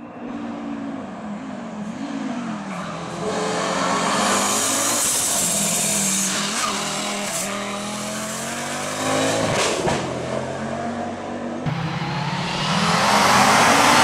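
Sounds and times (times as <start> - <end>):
rally car engine under throttle: 0.0 - 14.0.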